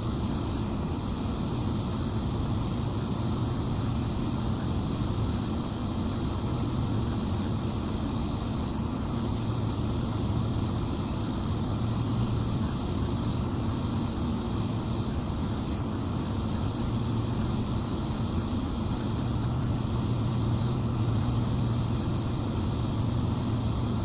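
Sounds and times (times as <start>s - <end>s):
cooling fans rushing air: 0.0s - 24.0s.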